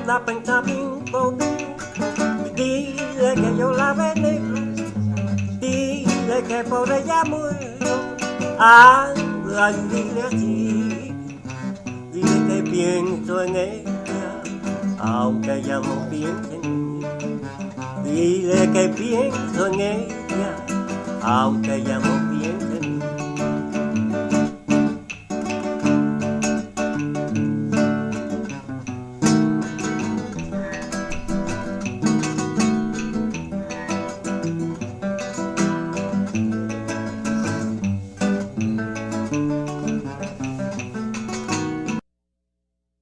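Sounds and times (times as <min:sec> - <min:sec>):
acoustic guitars plucking and strumming: 0:00.0 - 0:42.0.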